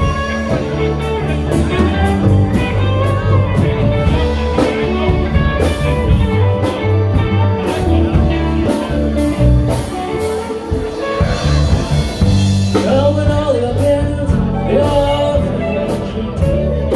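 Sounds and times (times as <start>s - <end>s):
bluesy band with guitar and drums: 0.0s - 16.9s
person singing: 0.0s - 16.9s.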